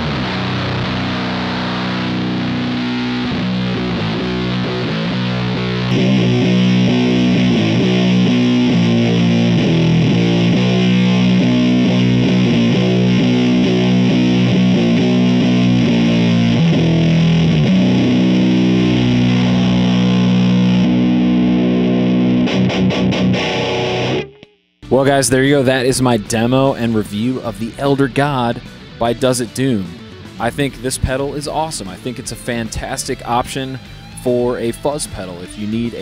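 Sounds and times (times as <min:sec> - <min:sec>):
choked guitar chord stabs: 0:00.0 - 0:36.0
fuzzed electric guitar riff: 0:00.0 - 0:36.0.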